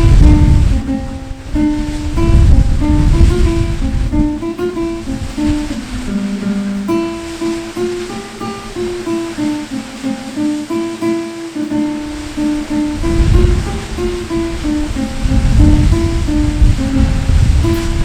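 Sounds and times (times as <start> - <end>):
acoustic guitar melody: 0.0 - 18.0
falling water rushing: 0.0 - 18.0.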